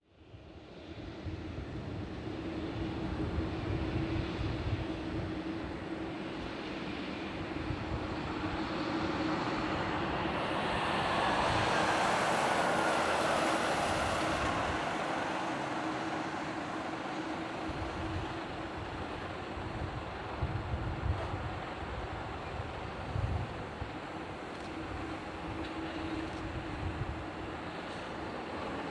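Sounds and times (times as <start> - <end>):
jet airliner passing by: 2.1 - 28.9.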